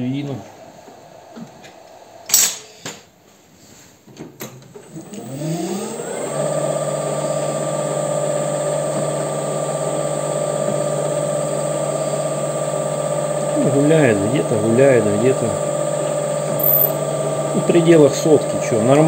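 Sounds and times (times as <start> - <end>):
lathe motor whining: 0.0 - 2.8, 4.8 - 19.0.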